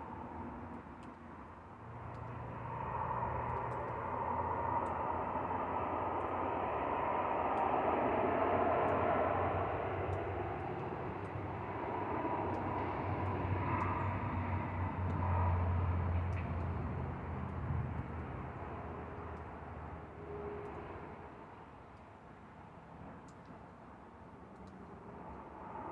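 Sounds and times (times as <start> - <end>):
engine rumble with low hum: 0.0 - 21.4.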